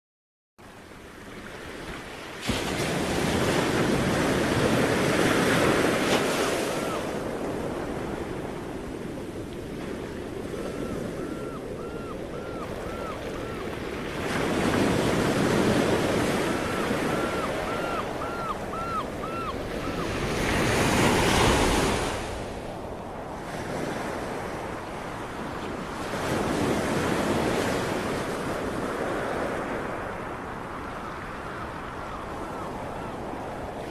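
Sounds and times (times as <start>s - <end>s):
sea waves breaking on shore: 0.6s - 33.9s.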